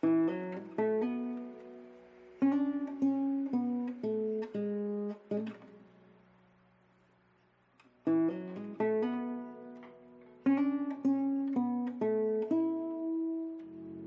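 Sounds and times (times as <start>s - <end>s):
acoustic guitar picking: 0.0s - 6.2s, 7.8s - 14.0s.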